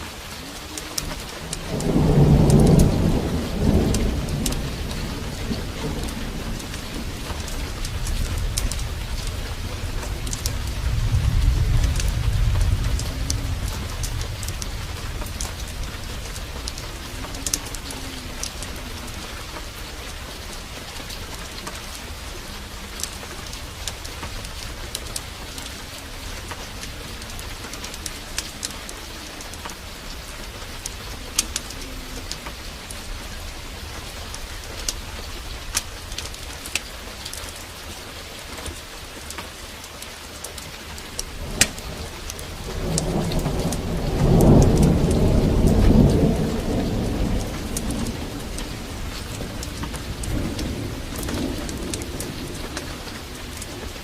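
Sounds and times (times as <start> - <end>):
thunder rumble: 0.0 - 38.1, 39.0 - 54.0
fireplace fire crackling: 0.0 - 54.0
rain downpour: 0.0 - 54.0.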